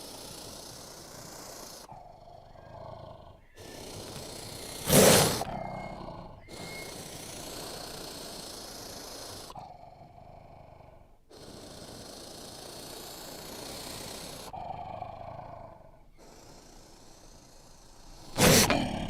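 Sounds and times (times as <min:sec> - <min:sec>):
breathy hissing growls: 0:00.0 - 0:19.0.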